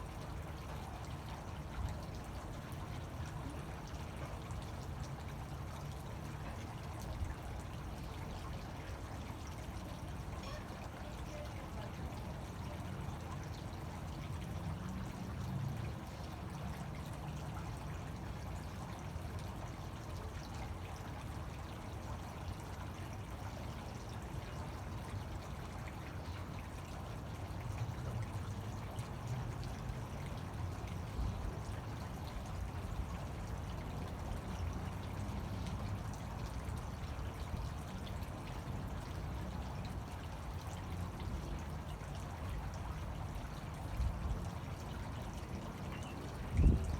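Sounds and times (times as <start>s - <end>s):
fountain water splashing: 0.0s - 46.9s.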